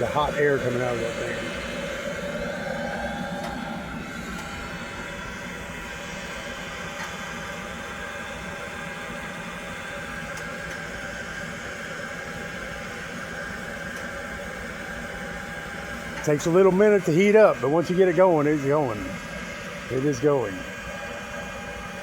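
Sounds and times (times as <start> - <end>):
blower motor whine: 0.0 - 22.0.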